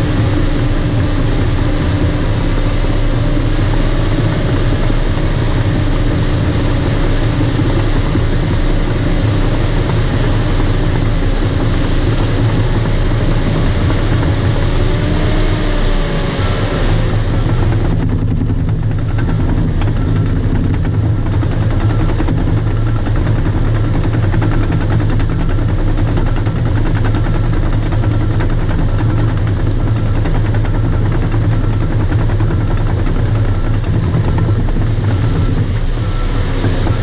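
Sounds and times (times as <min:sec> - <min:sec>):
bulldozer diesel engine rumbling: 0:00.0 - 0:37.0.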